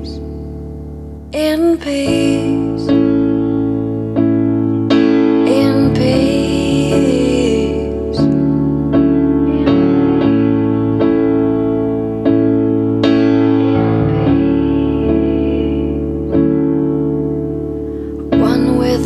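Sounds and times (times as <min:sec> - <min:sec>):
soft piano-like keyboard chords: 0:00.0 - 0:19.0.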